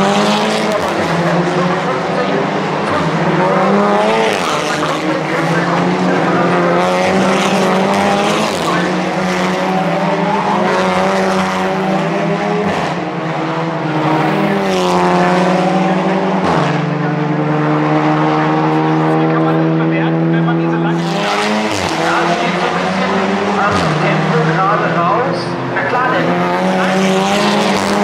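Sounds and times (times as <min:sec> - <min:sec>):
race car engines at full throttle: 0:00.0 - 0:28.0.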